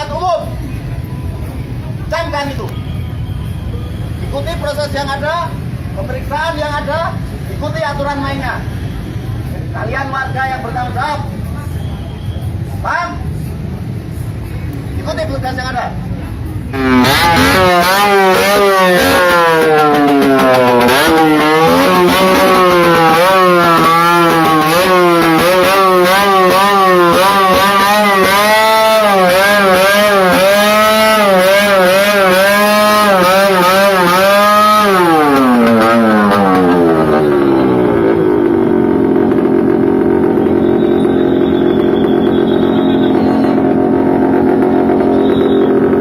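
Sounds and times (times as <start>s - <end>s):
motorcycle engines revving: 0.0s - 46.0s.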